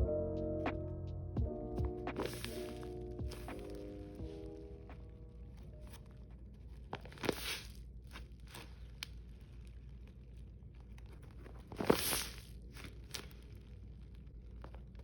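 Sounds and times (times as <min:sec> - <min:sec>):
paper squishies being squeezed: 0:02.1 - 0:15.0
tape and paper crinkling: 0:02.1 - 0:15.0.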